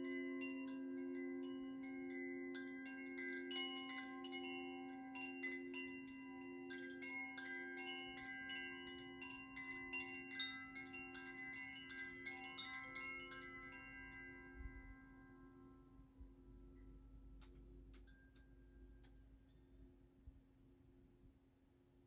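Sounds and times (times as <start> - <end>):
singing bowl hum: 0.0 - 19.8.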